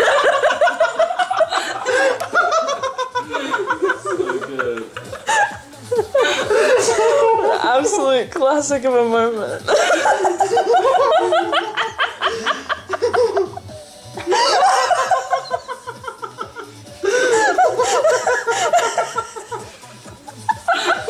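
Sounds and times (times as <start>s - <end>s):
group of people laughing: 0.0s - 8.6s, 9.6s - 21.0s
background music with steady beat: 0.0s - 21.0s.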